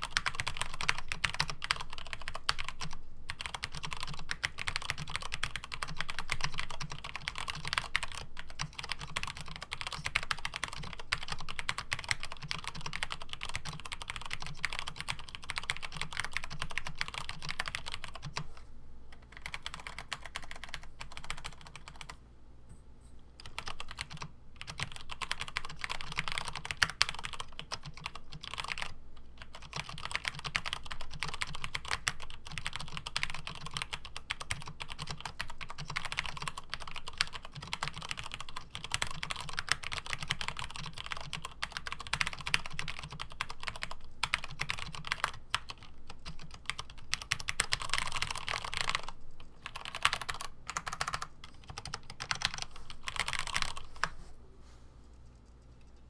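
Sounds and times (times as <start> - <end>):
mechanical keyboard typing: 0.0 - 18.5, 19.1 - 22.2, 23.4 - 54.1.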